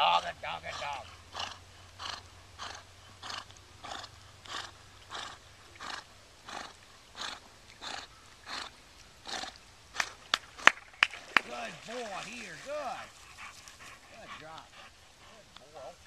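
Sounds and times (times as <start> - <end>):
dog breathing hard: 0.6 - 10.2, 12.2 - 16.0.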